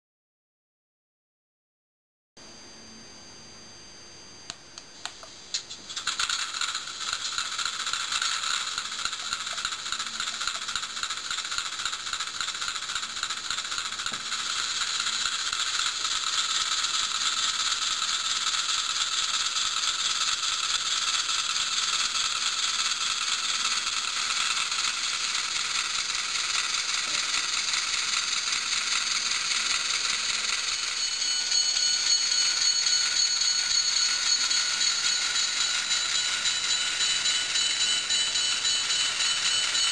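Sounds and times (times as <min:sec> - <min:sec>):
model train motor whirring: 0:05.9 - 0:39.9.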